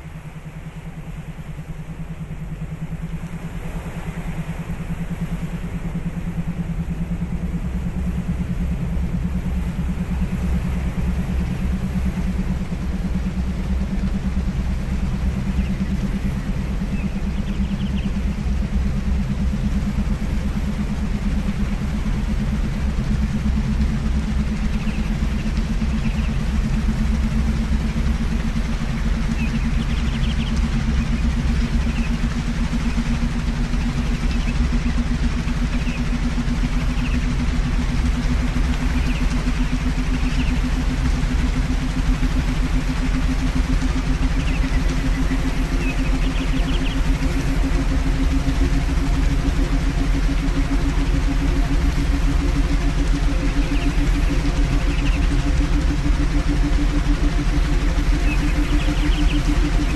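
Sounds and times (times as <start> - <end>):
pulsing electronic drone: 0.0 - 59.9.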